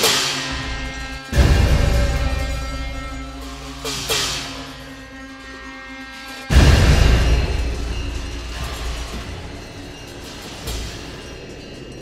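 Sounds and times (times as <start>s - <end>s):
eerie sustained tone music: 0.0s - 12.0s.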